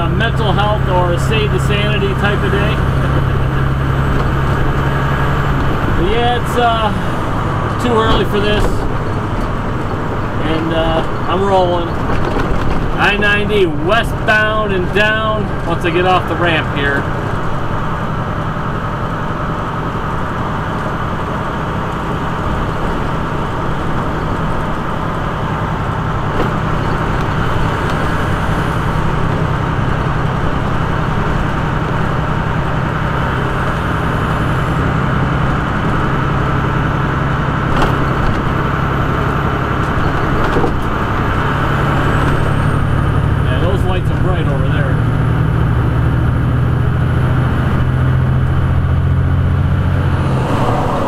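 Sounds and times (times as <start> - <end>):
diesel truck engine drone: 0.0 - 51.0.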